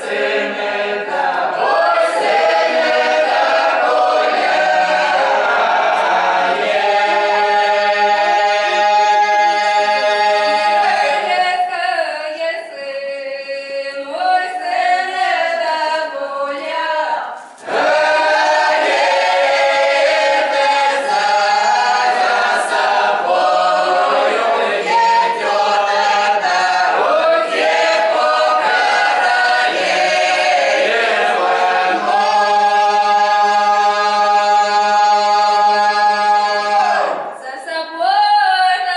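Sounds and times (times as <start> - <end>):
mixed choir singing unaccompanied: 0.0 - 12.1, 13.9 - 38.0.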